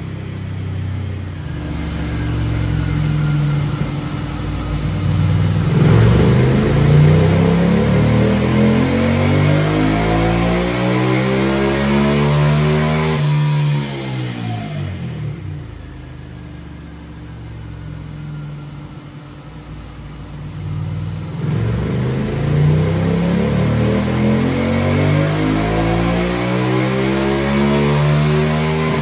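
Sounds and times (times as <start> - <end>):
motorcycle engine revving: 0.0 - 18.2, 20.2 - 29.0.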